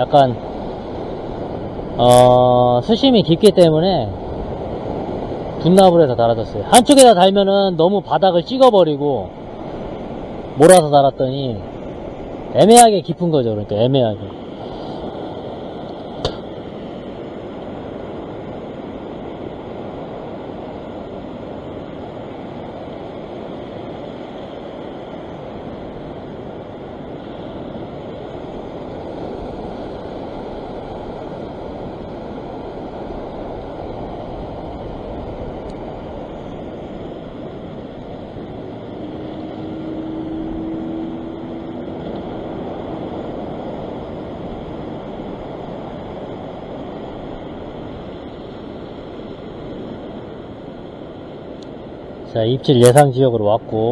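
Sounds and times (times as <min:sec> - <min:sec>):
surf washing over rocks: 0:00.0 - 0:53.9
wind rumbling on microphone: 0:00.0 - 0:53.9.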